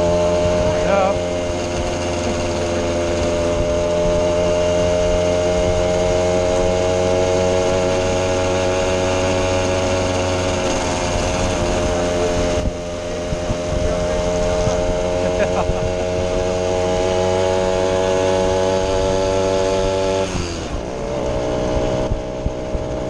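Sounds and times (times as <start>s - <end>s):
moped two-stroke engine running: 0.0s - 23.0s.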